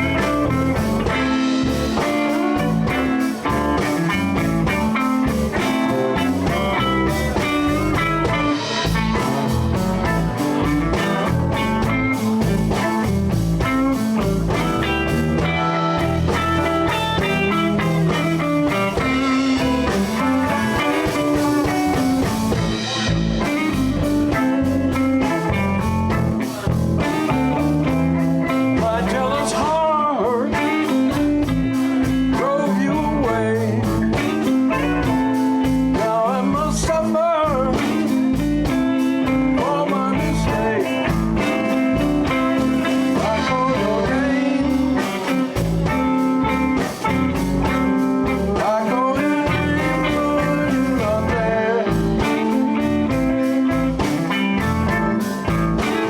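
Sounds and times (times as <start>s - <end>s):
blues band playing: 0.0s - 56.0s
electric guitar bending notes: 0.0s - 56.0s.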